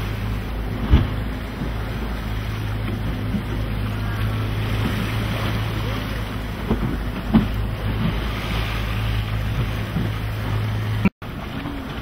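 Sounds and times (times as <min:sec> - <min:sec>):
boat engine idling: 0:00.0 - 0:12.0
sea waves: 0:00.0 - 0:12.0
wind: 0:00.0 - 0:12.0.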